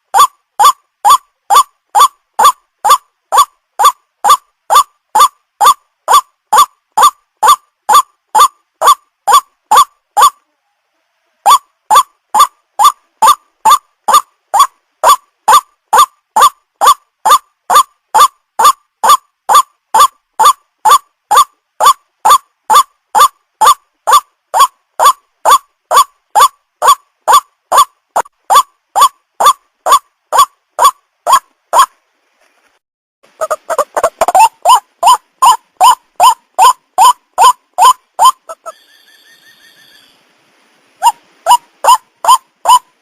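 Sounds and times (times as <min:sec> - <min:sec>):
waterhen calling: 0:00.0 - 0:10.5, 0:11.4 - 0:31.9, 0:33.3 - 0:40.2, 0:41.0 - 0:43.0.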